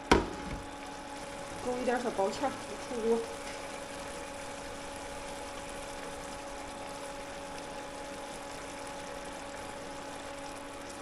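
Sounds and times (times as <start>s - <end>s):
kitchen fan rushing air: 0.0s - 11.0s
low fan hum: 0.0s - 11.0s.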